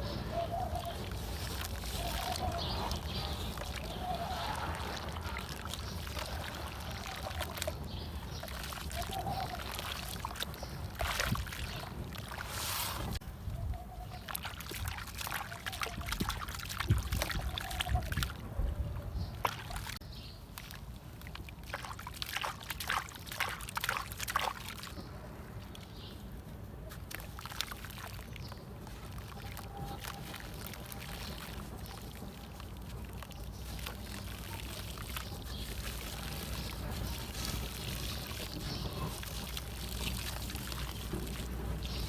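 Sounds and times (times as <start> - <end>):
water trickling and sloshing: 0.0 - 42.0.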